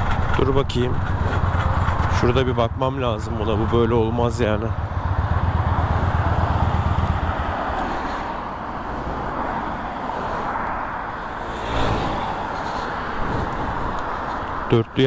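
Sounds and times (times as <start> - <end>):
motorcycle engine pulsing: 0.0 - 15.0
wind and road noise: 0.0 - 15.0.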